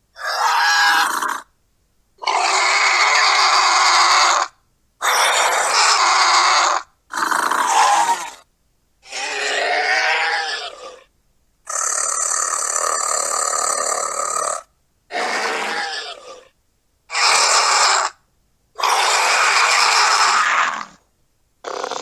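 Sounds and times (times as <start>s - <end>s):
creature calls: 0.2s - 1.5s, 2.2s - 8.4s, 9.0s - 11.1s, 11.7s - 16.5s, 17.1s - 18.2s, 18.8s - 21.0s, 21.6s - 22.0s.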